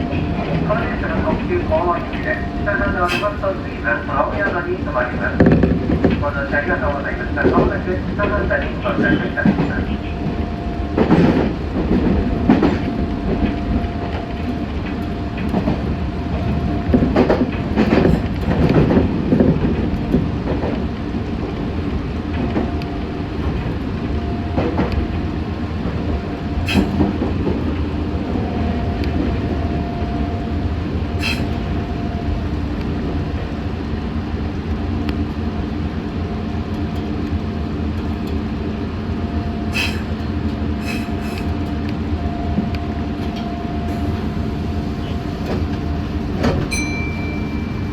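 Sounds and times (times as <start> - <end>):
clacks over rail joints: 0.0 - 30.2, 31.2 - 39.0, 39.7 - 47.9
train wheels rumbling on rail: 0.0 - 47.9
constant electric hum: 6.8 - 47.9.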